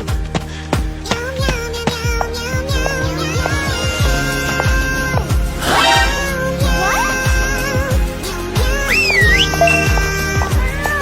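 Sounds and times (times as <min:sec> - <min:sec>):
electronic pop music: 0:00.0 - 0:11.0.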